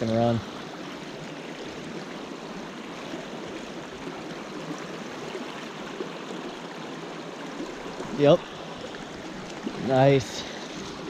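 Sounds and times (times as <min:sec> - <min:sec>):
water rushing in creek: 0:00.0 - 0:11.0.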